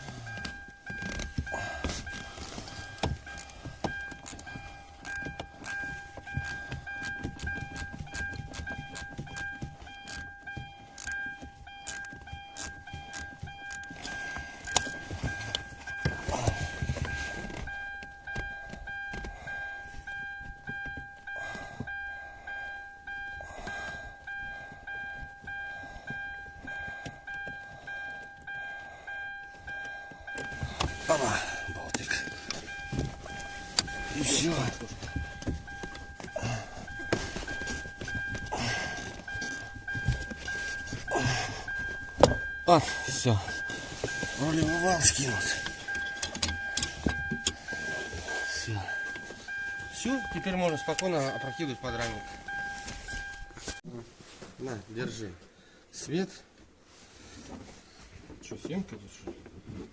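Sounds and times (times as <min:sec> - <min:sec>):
steady high-pitched tone: 0:00.0 - 0:53.8.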